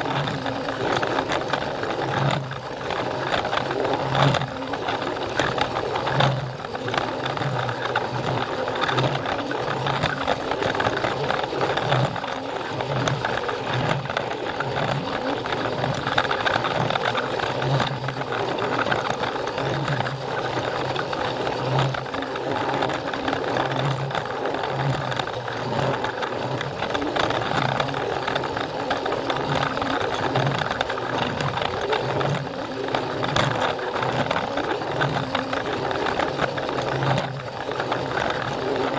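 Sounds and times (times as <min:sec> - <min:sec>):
toy train motor whirring: 0:00.0 - 0:38.9
wheels rattling on plastic track: 0:00.0 - 0:38.9.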